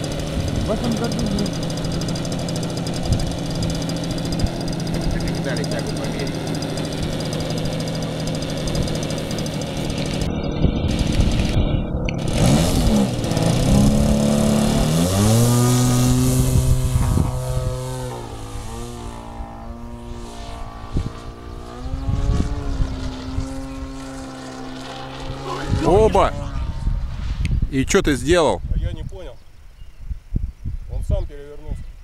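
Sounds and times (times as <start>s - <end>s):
model airplane motor and propeller: 0.0s - 27.0s.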